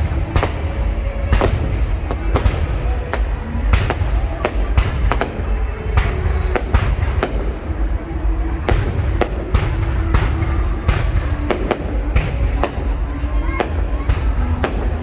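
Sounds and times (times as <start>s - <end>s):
fireworks banging: 0.0s - 15.0s
low rumble of fireworks: 0.0s - 15.0s.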